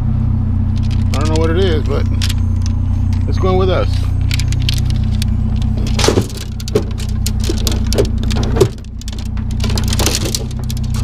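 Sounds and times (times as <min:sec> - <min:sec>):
vehicle engine idling: 0:00.0 - 0:11.0
metal rods clattering: 0:00.8 - 0:11.0.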